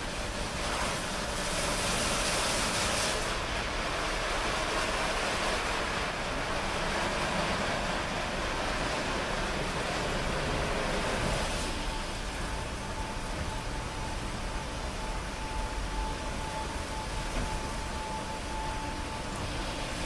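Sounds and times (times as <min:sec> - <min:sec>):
steady machine whine: 0:00.0 - 0:20.0.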